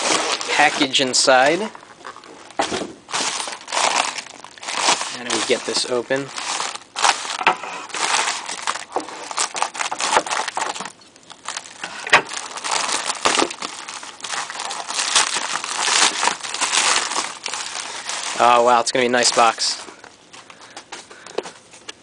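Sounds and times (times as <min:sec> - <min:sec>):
bubble mailer crinkling: 0:00.0 - 0:20.6.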